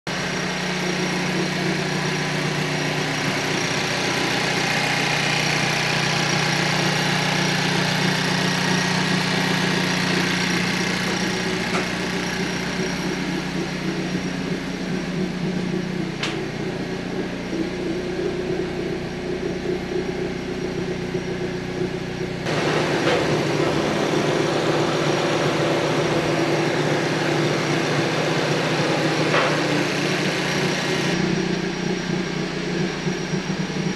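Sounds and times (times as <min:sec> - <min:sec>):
machine humming: 0:00.1 - 0:33.9.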